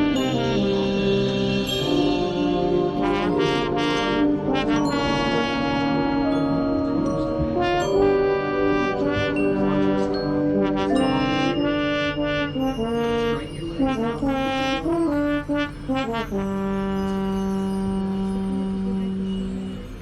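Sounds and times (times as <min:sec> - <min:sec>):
marching band brass chords: 0:00.0 - 0:19.9.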